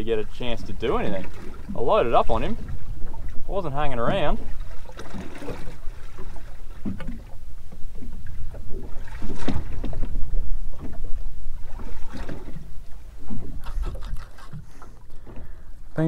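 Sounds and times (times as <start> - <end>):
low wind rumble: 0.0 - 16.0
small waves slapping boat hull: 0.0 - 16.0.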